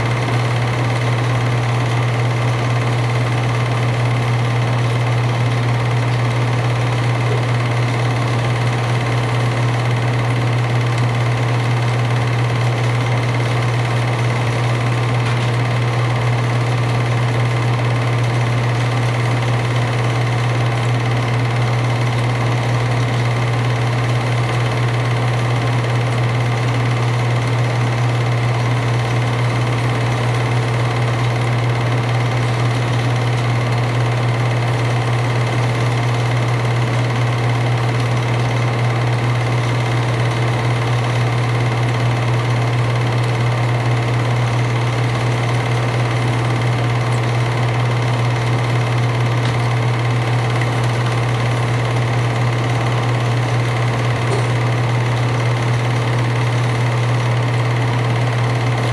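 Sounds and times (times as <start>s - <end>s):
film drive clatter: 0.0s - 58.9s
film projector motor hum: 0.0s - 58.9s.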